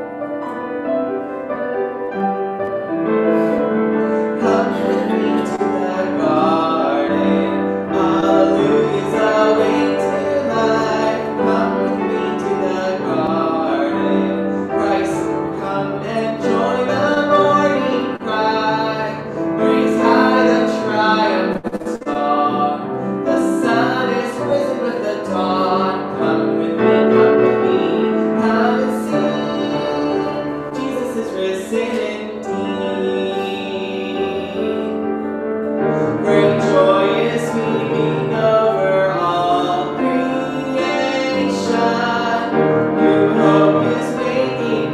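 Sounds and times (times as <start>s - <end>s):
person singing: 0.0s - 44.9s
piano playing a hymn: 0.0s - 44.9s.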